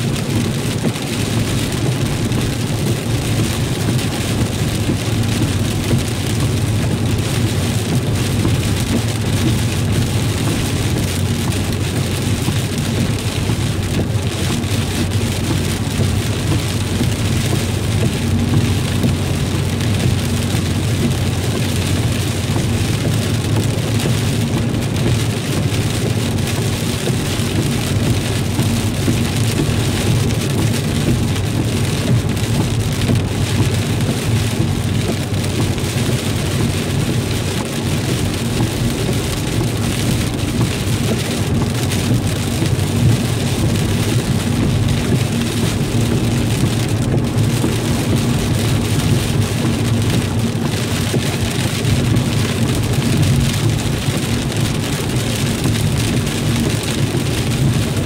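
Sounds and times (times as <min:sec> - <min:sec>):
car hum and tyres on wet road: 0:00.0 - 0:58.0
rain on car roof: 0:00.0 - 0:58.0.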